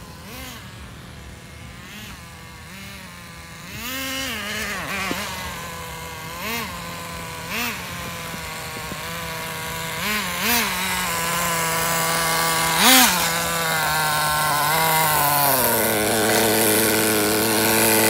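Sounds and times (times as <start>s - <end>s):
small nitro engine idling and revving: 0.0s - 18.0s.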